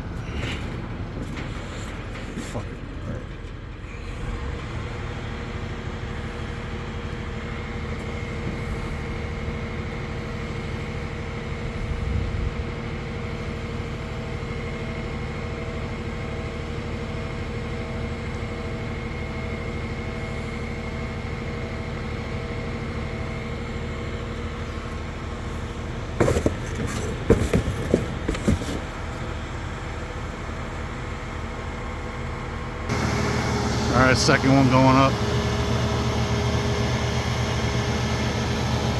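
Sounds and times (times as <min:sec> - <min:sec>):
truck engine running with whine: 0:00.0 - 0:38.9.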